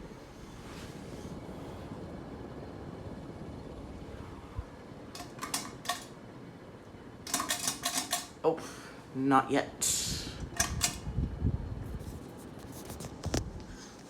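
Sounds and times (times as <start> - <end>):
ceiling fan air rushing: 0.0 - 14.0.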